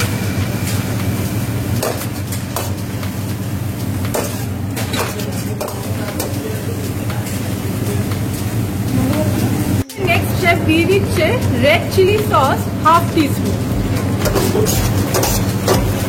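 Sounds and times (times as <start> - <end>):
vegetables frying in a pan: 0.0 - 16.0
steady low hum: 0.2 - 16.0.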